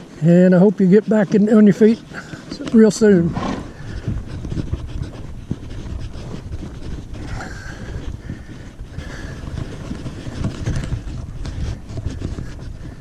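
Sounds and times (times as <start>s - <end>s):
horse hooves thumping: 0.0s - 13.0s.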